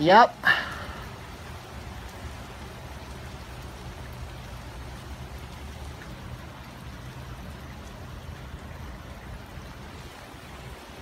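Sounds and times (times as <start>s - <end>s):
heavy rain on pavement: 0.0s - 11.0s.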